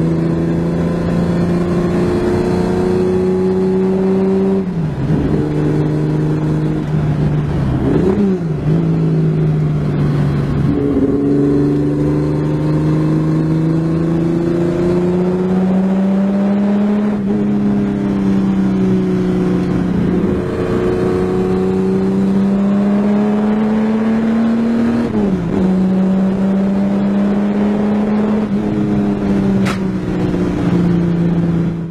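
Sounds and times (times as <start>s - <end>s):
car engine under load: 0.0s - 31.9s.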